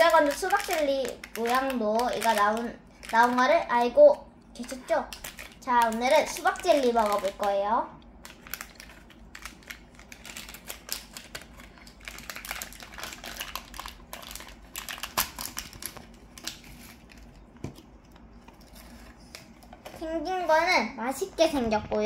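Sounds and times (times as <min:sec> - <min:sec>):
plastic packet crinkling: 0:00.0 - 0:04.0, 0:04.6 - 0:20.0.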